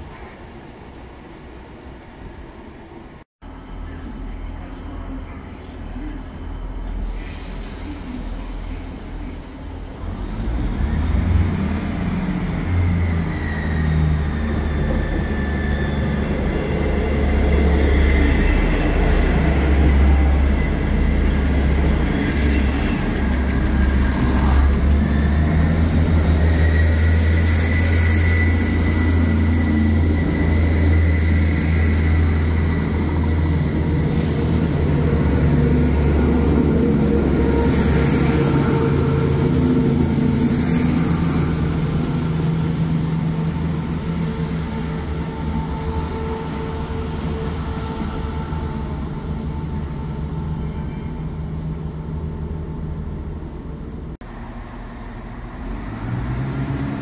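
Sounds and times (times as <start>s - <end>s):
train deep heavy drone: 0.0s - 57.0s.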